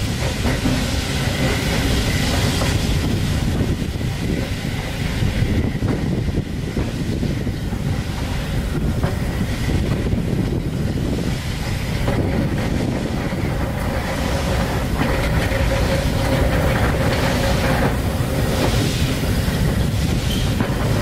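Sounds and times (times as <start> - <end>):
train wheel and track noise: 0.0 - 21.0
wheels clicking over rail joints: 0.0 - 21.0
wind on microphone: 0.0 - 21.0.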